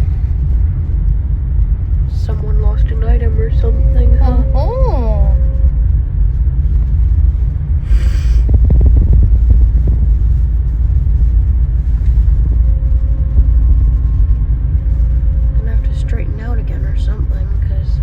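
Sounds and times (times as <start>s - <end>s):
ship engines low rumble: 0.0s - 18.0s.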